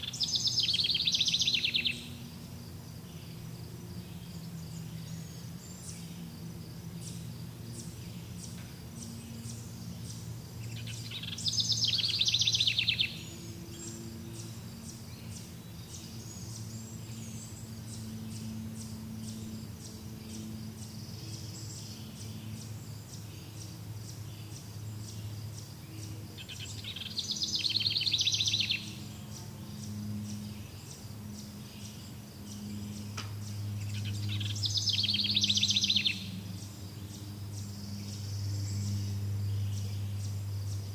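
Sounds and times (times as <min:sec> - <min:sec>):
bird singing a trill: 0:00.0 - 0:40.9
insects chirping: 0:00.0 - 0:40.9
steady low hum: 0:00.0 - 0:40.9.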